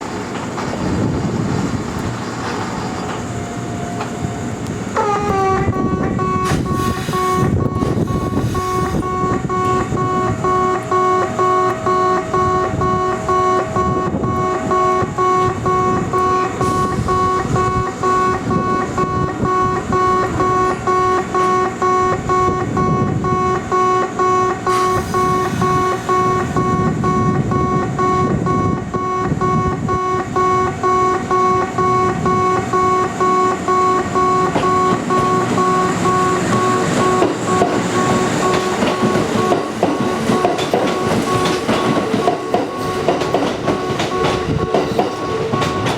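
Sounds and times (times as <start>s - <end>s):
level-crossing warning buzzer: 2.0s - 45.9s.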